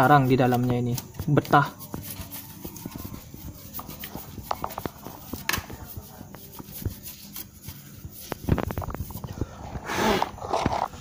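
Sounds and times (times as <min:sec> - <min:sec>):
paintbrush scraping: 0:00.0 - 0:11.0.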